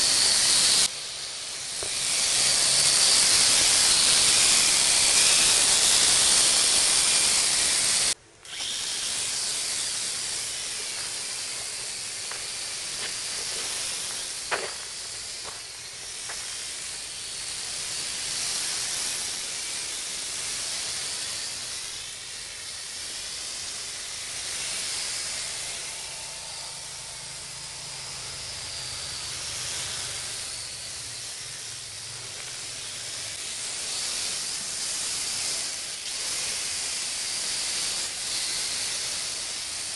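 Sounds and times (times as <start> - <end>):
quadcopter propellers hissing: 0.0 - 39.9.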